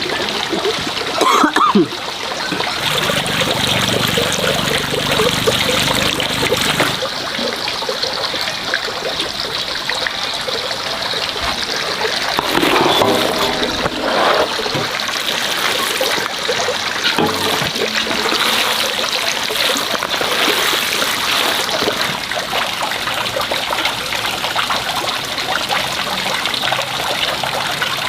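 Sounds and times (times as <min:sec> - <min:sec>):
water running and splashing: 0:00.0 - 0:28.0.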